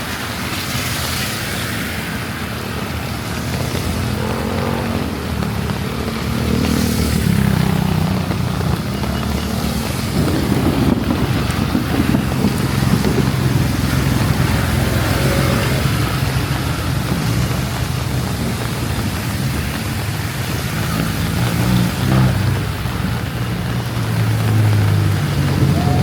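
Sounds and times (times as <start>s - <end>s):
rain: 0.0s - 26.0s
wet tyres hissing: 0.0s - 26.0s
vehicle engines running: 2.4s - 26.0s.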